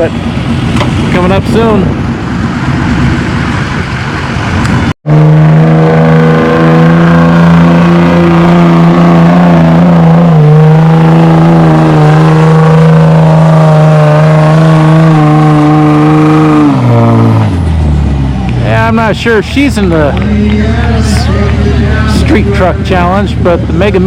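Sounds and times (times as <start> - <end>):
truck engine at high revs: 0.0 - 24.0.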